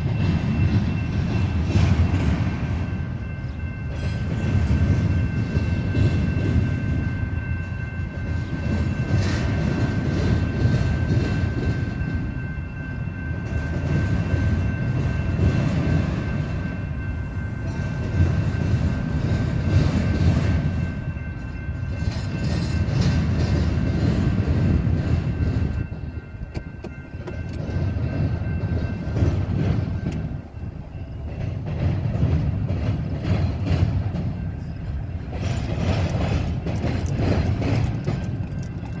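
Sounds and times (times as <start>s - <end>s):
freight train rumbling: 0.0s - 39.0s
wheels clacking over rails: 0.0s - 39.0s.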